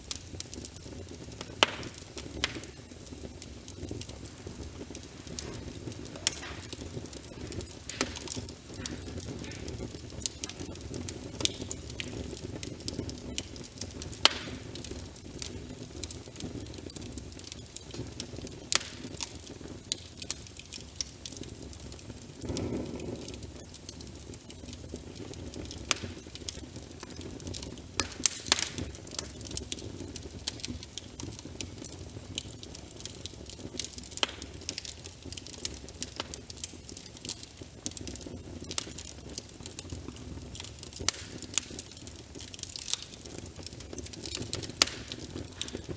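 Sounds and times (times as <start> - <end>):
rain patter: 0.0 - 45.9
wood fire crackling: 0.0 - 45.9.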